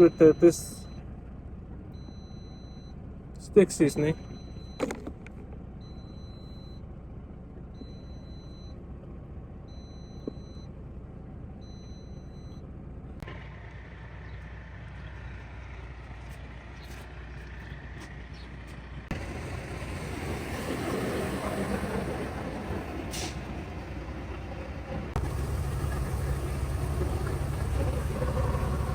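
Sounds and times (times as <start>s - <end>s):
idling engine rumble: 0.0s - 28.9s.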